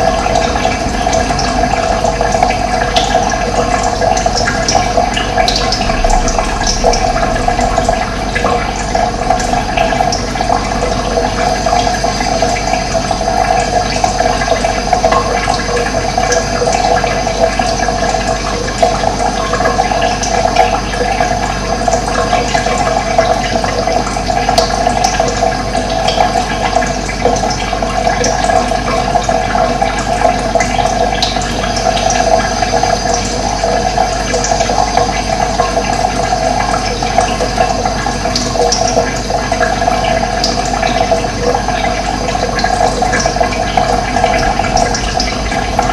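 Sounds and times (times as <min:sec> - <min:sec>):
running water flowing: 0:00.0 - 0:45.9.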